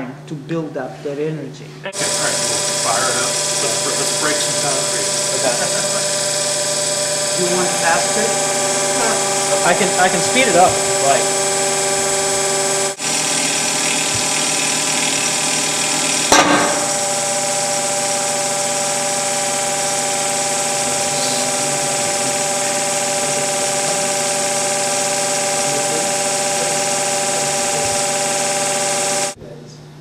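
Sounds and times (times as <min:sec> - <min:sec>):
hydraulic pump humming: 0:00.0 - 0:30.0.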